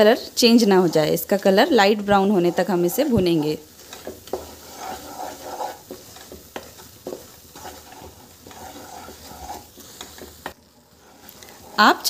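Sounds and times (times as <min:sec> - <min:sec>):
flour sizzling in oil: 0:00.0 - 0:12.0
wooden spatula scraping a pan: 0:00.0 - 0:12.0.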